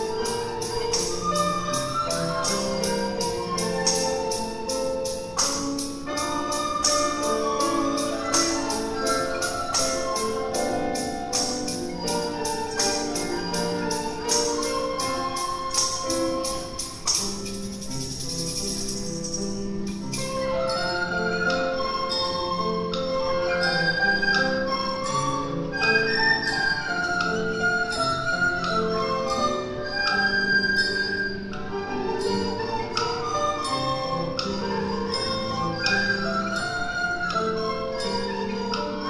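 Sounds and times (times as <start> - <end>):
recorder ensemble playing: 0.0 - 18.2, 18.9 - 39.0
jingling percussion: 0.0 - 39.0.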